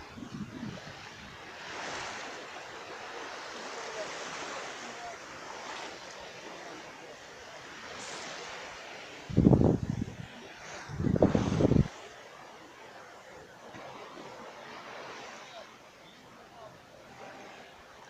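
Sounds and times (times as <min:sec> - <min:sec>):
small waves washing onto beach: 0:00.0 - 0:18.0.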